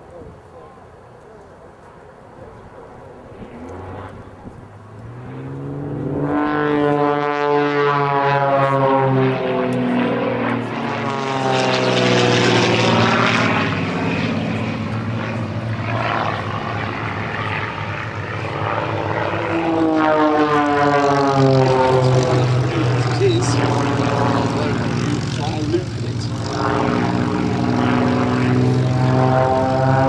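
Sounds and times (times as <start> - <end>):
propeller aircraft engine drone: 0.0 - 30.0.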